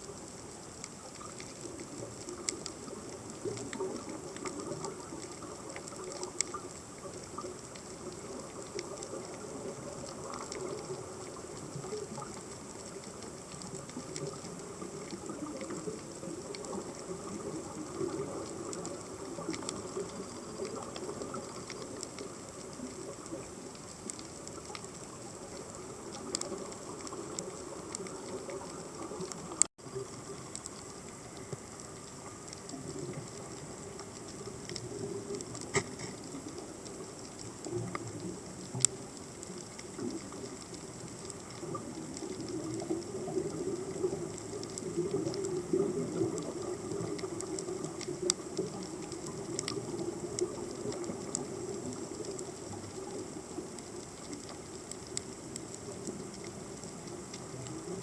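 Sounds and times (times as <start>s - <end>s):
sharp underwater clicks: 0.0s - 58.0s
underwater rushing noise: 0.0s - 58.0s.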